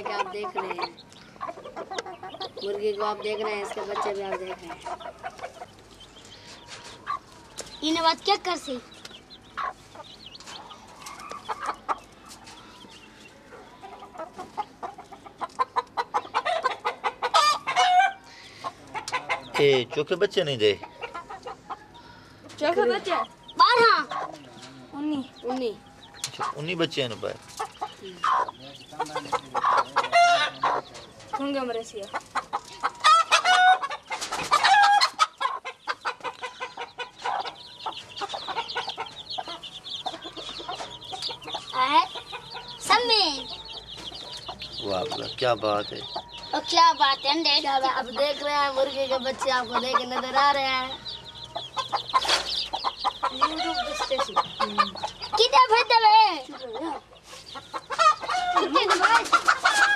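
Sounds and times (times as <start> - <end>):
chicks peeping: 0.0 - 59.9
hen clucking: 0.0 - 59.9.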